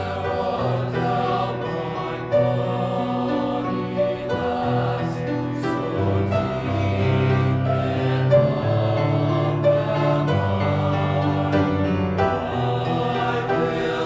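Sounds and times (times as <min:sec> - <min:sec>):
choir singing: 0:00.0 - 0:14.0
piano accompaniment: 0:00.0 - 0:14.0.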